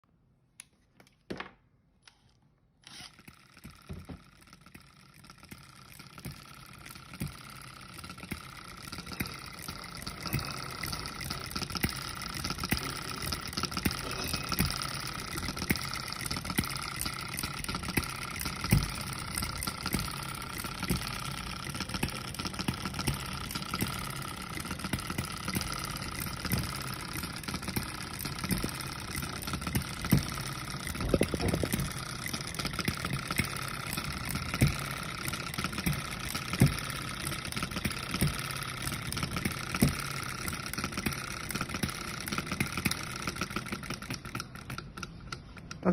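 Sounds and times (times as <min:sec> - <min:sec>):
model engine clattering: 0:02.1 - 0:45.9.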